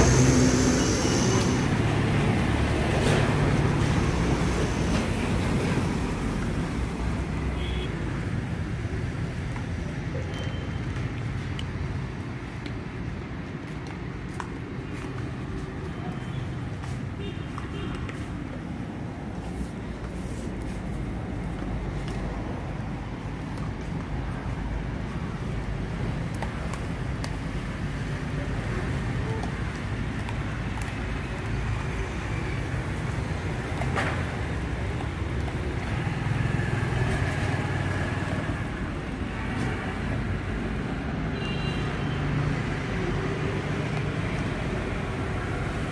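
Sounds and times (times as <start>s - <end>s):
road traffic: 0.0s - 45.9s.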